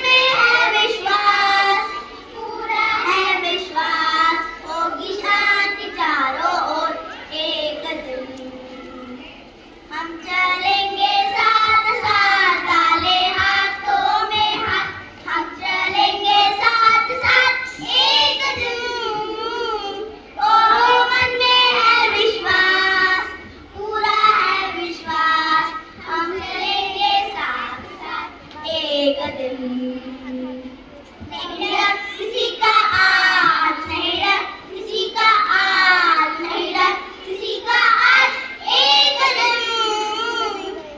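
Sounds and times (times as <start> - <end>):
children singing into a microphone: 0.0 - 40.9.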